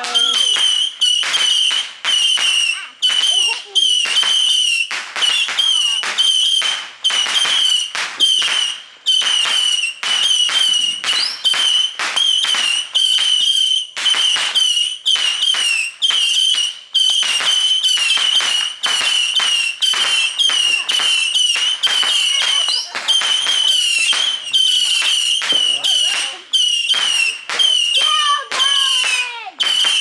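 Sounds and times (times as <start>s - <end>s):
whistling fireworks: 0.0s - 30.0s.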